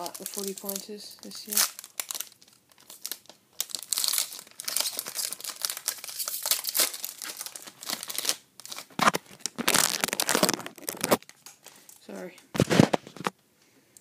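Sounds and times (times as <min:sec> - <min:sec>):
wrapper crinkling and tearing: 0:00.0 - 0:13.3.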